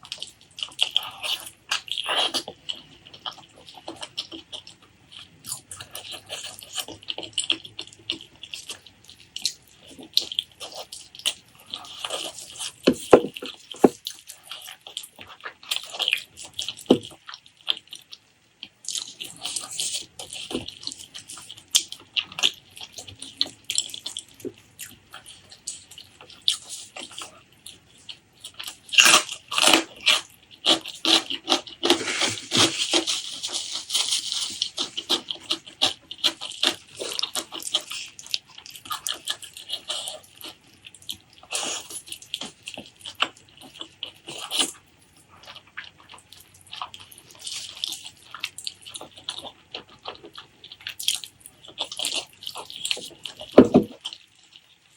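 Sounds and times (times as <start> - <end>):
wet chewing and lip smacking: 0.0 - 54.9.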